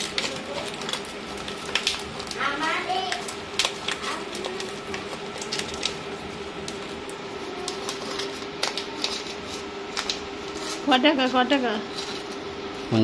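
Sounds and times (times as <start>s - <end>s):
paper rustling and crinkling: 0.0s - 11.0s
steady hum: 0.0s - 13.0s.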